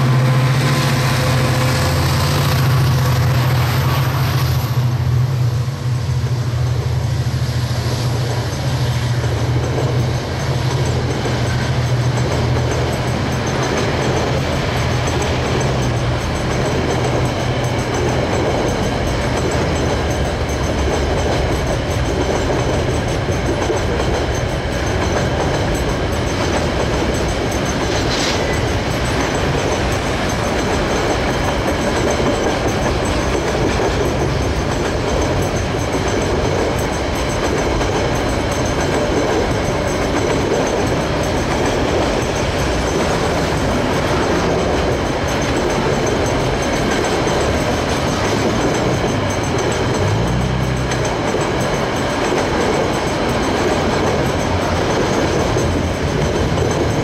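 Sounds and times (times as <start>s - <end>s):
diesel locomotive engines: 0.0s - 57.0s
wheels clicking over rail joints: 8.2s - 57.0s.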